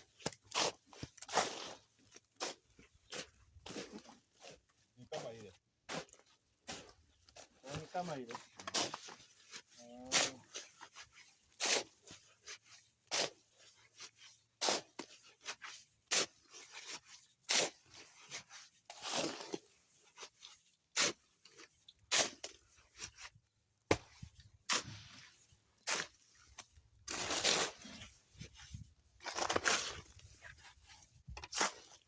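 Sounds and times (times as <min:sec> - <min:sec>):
shovel scraping cement mix: 0:00.0 - 0:32.0.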